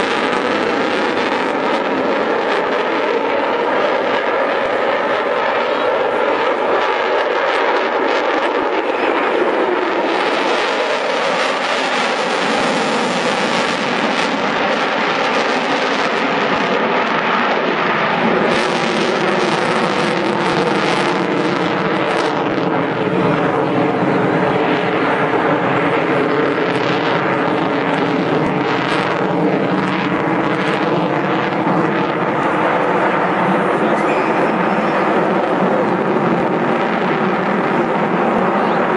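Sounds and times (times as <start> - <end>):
loud rushing jet noise: 0.0 - 38.9
low engine drone: 0.0 - 38.9.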